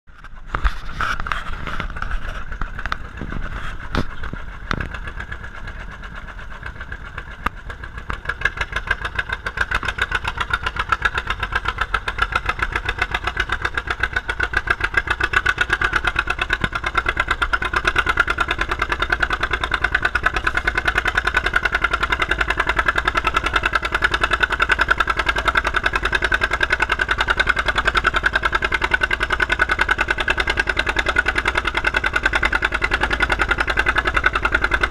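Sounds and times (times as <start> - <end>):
two-cylinder tractor engine popping: 0.1 - 34.9.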